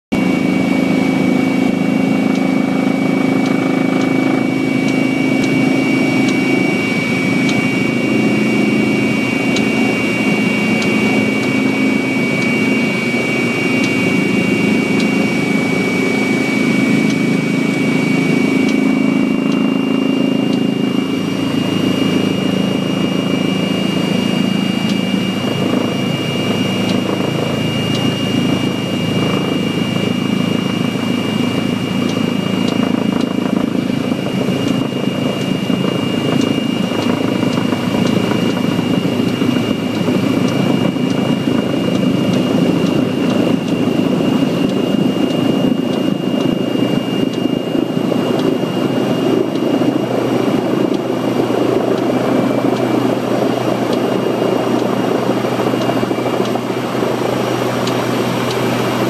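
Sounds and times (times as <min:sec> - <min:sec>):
helicopter turbine whine: 0:00.1 - 0:59.0
low helicopter drone: 0:00.1 - 0:59.0.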